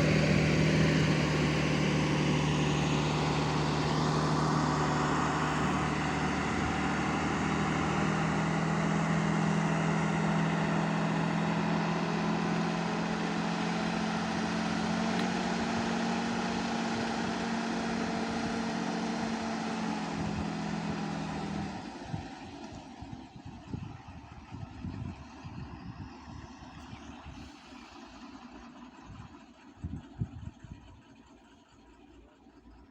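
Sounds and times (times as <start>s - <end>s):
diesel engine droning: 0.0s - 32.9s.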